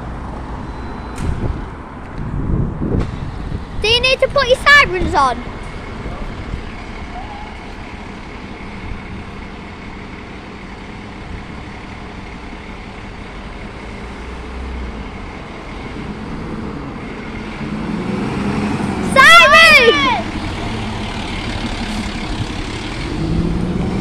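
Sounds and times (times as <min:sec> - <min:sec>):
fire engine diesel engine running: 0:03.2 - 0:24.0.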